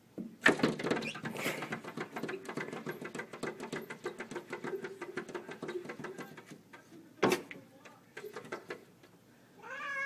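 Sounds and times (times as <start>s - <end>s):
cat paws tapping on glass: 0.6s - 8.8s.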